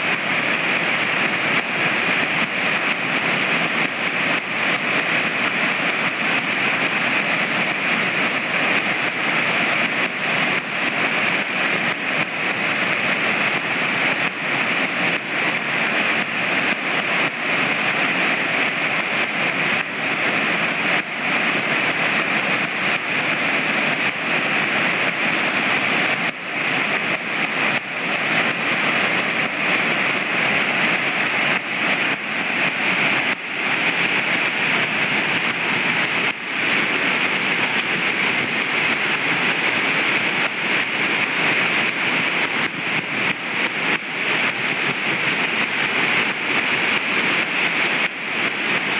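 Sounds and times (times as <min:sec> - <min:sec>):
waterfall roaring: 0:00.0 - 0:48.9.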